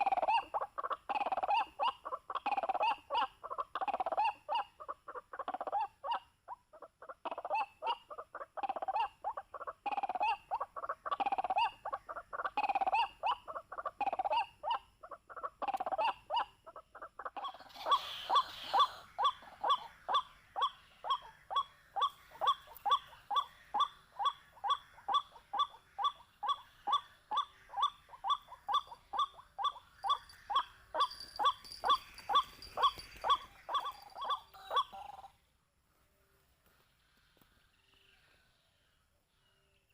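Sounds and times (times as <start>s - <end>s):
waterhen calling: 0.0s - 35.4s.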